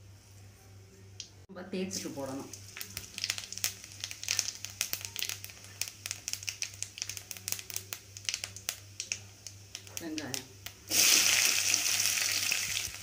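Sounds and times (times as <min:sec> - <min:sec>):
spices crackling in hot oil: 0:01.1 - 0:13.0.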